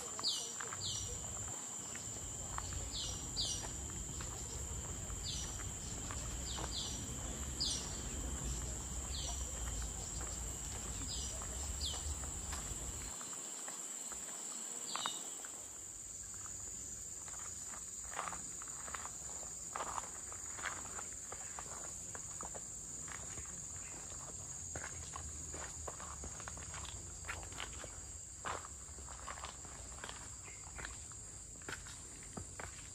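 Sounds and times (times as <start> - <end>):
insects buzzing: 0.0 - 32.9.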